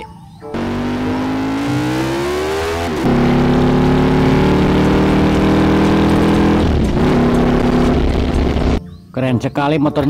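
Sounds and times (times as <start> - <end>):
motorcycle engine accelerating: 0.5 - 8.8.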